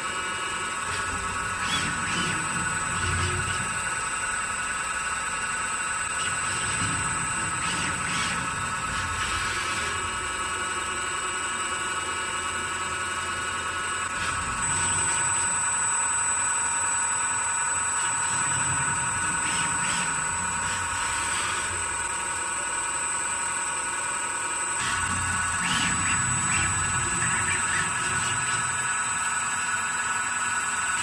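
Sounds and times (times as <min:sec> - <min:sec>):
motors whining: 0:00.0 - 0:05.0, 0:05.7 - 0:10.7, 0:12.4 - 0:23.6, 0:24.6 - 0:31.0.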